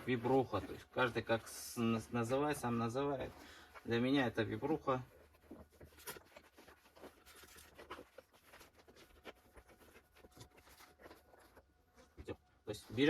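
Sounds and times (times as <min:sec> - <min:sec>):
hands handling materials: 0:00.0 - 0:13.0.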